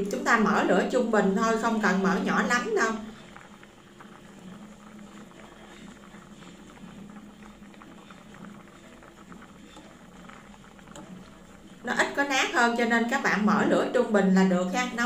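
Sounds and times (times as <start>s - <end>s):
soup bubbling and popping: 0.0s - 15.0s.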